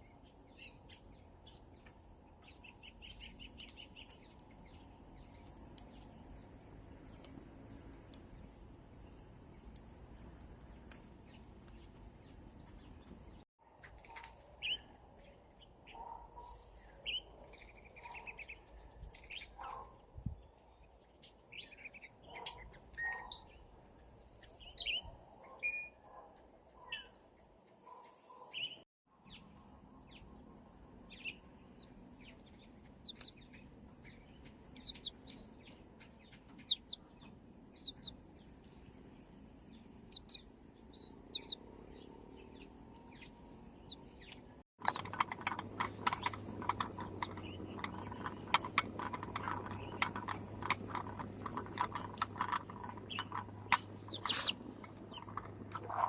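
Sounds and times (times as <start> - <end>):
small birds chirping: 0.0 - 26.0, 26.7 - 56.0.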